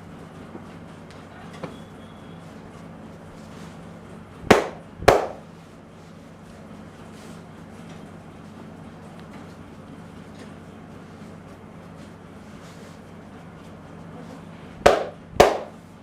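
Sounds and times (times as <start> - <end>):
steady low hum: 2.5 - 16.0.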